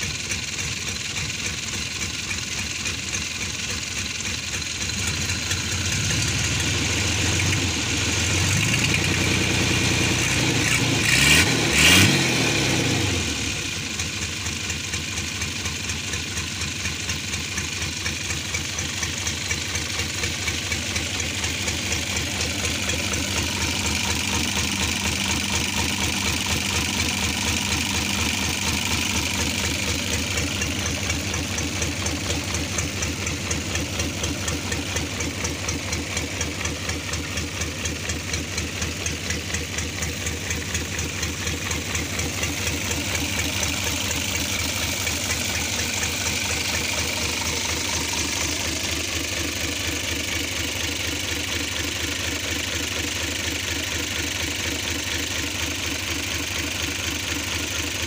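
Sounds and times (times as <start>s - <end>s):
diesel engine idling and revving: 0.0s - 58.0s.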